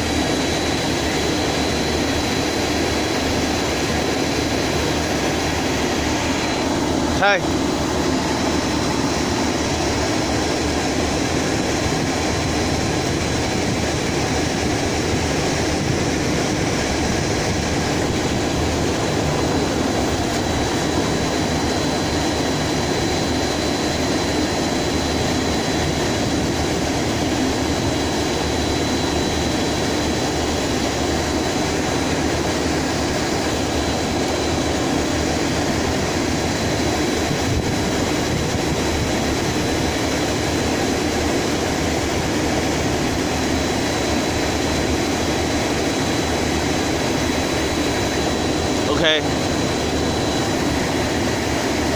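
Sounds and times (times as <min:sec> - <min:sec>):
exhaust fans rumbling: 0:00.0 - 0:51.9
faint high whine: 0:00.0 - 0:51.9.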